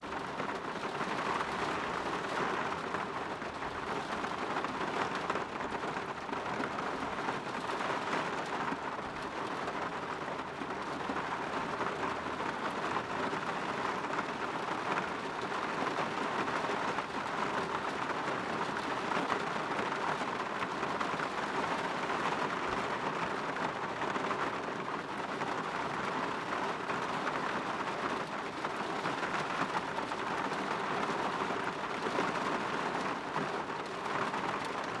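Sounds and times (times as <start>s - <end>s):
rain on a window: 0.0s - 35.0s.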